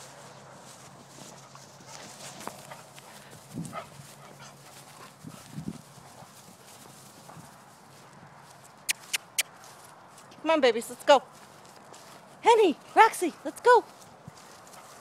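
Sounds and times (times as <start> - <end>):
footsteps rustling on dry grass: 0.0 - 15.0.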